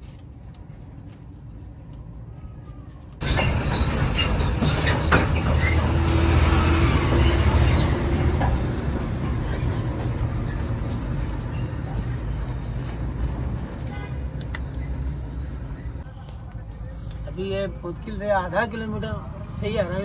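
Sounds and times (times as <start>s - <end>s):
heavy vehicle engine rumbling: 0.0s - 20.0s.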